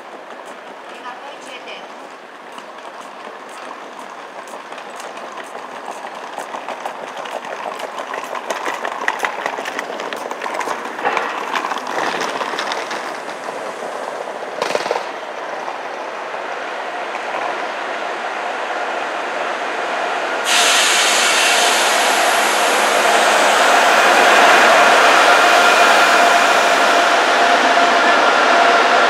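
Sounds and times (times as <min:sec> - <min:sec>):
train wheels clicking over rail joints: 0:00.0 - 0:16.1, 0:20.4 - 0:27.9
train rush: 0:00.0 - 0:29.0.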